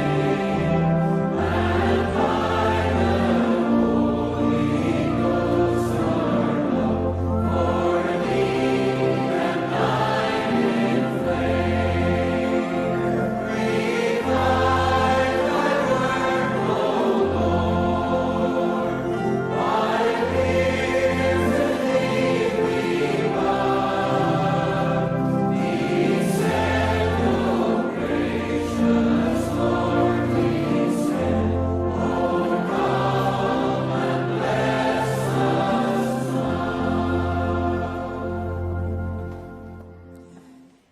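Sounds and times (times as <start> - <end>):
choir singing a hymn: 0.0 - 40.5
instrumental accompaniment: 0.0 - 40.9.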